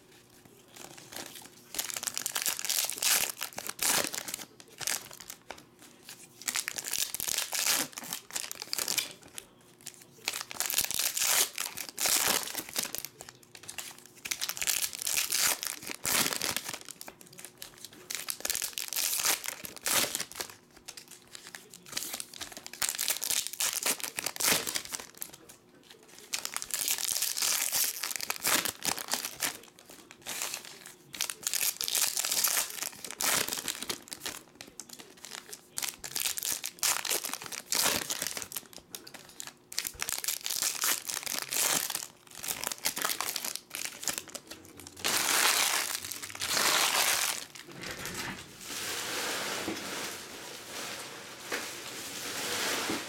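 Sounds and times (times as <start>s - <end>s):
foil wrappers tearing and crinkling: 0.6s - 53.0s.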